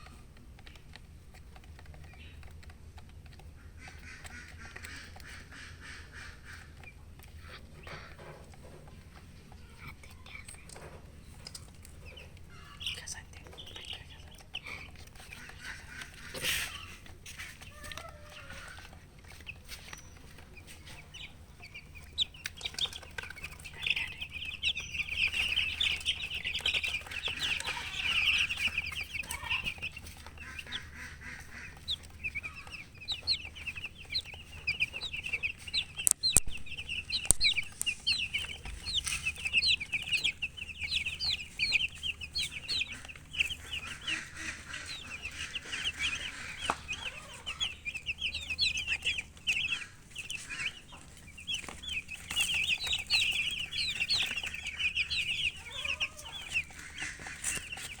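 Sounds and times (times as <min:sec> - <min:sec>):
baby chicks peeping: 0:00.0 - 0:58.0.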